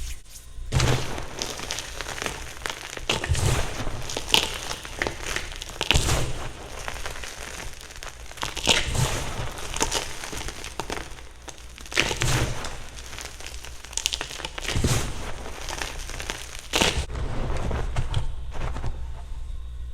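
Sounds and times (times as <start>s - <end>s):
chalk blocks crunching: 0.7s - 19.0s.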